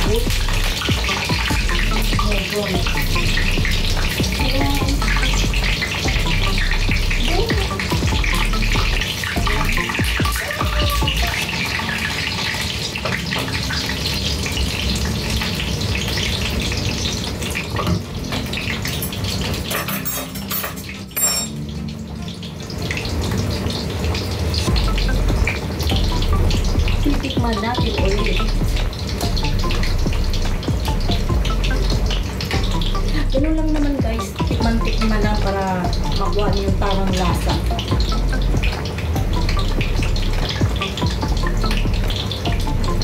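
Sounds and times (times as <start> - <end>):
deep-frying sizzle and spatter: 0.0 - 43.0.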